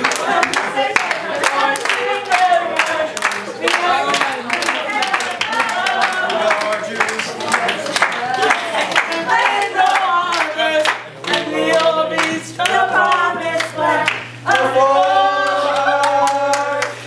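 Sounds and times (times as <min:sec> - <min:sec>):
handclaps: 0:00.0 - 0:14.7
group singing held notes: 0:00.0 - 0:17.0.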